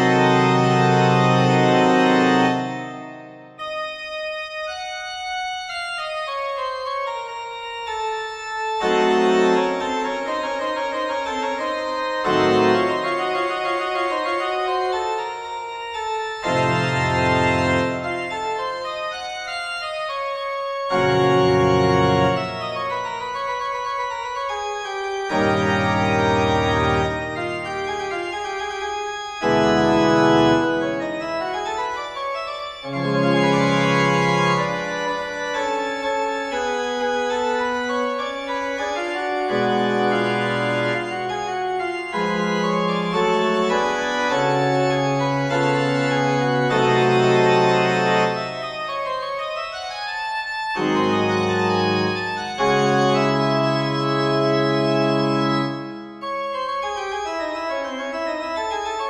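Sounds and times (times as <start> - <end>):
organ chords: 0.0 - 59.0.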